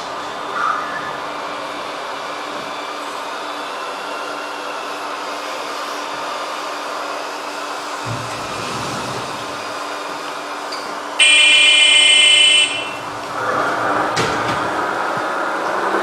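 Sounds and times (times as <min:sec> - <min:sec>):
excavator pump whine and hum: 0:00.0 - 0:16.0.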